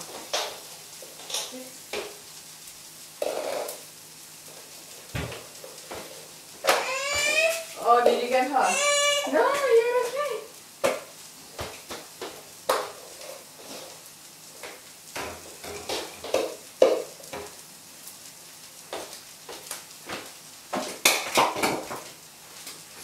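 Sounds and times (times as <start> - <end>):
pancake sizzling in frying pan: 0.0 - 23.0.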